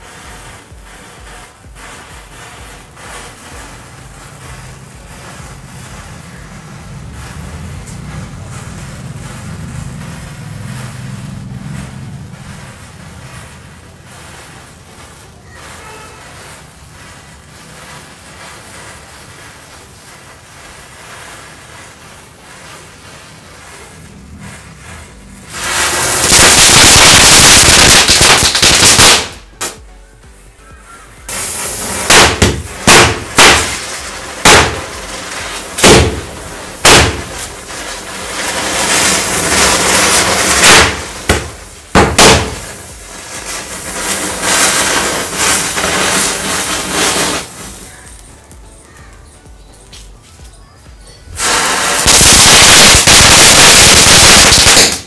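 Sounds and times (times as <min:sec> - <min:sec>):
firecracker bangs: 0:00.0 - 0:29.9, 0:31.1 - 0:49.1, 0:51.3 - 0:55.0
firework fountain hissing: 0:00.0 - 0:55.0.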